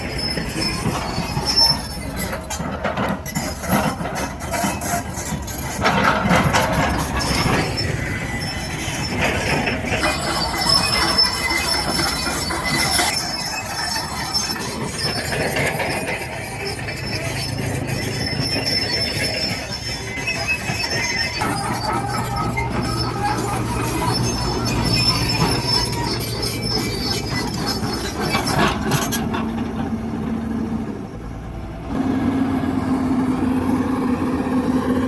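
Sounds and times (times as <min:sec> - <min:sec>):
high-pitched metallic squealing: 0:00.0 - 0:30.1, 0:32.4 - 0:35.0
excavator diesel engine: 0:00.0 - 0:35.0.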